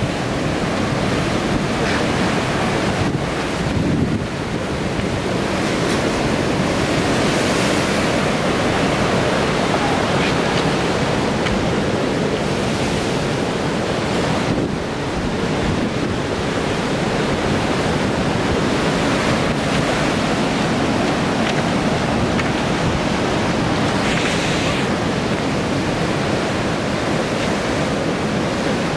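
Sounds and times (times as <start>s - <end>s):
heavy surf breaking on rocks: 0.0s - 28.9s
wind buffeting microphone: 0.0s - 28.9s.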